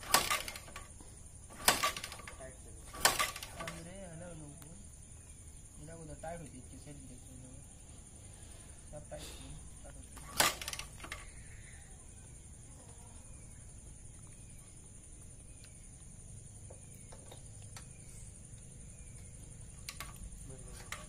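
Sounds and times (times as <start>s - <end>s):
bird chirping faintly: 0.0s - 21.0s.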